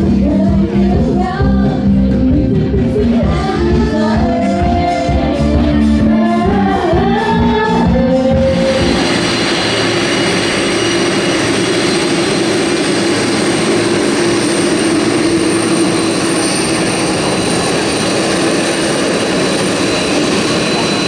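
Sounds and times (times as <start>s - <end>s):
aircraft engine roar: 0.0s - 21.0s.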